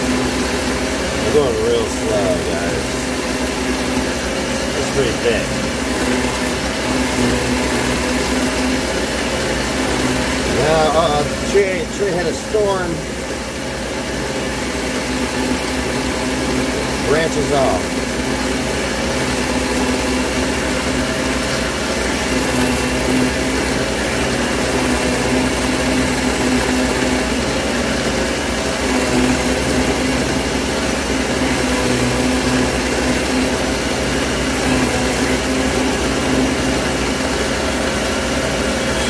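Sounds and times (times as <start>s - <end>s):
ring saw cutting glass: 0.0s - 39.0s.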